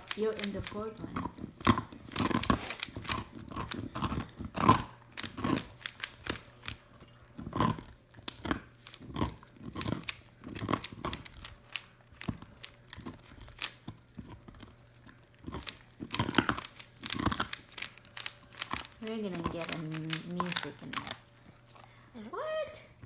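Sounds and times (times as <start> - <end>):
puzzle cube clicking and rattling: 0.0 - 6.8, 7.7 - 13.9, 15.5 - 21.2.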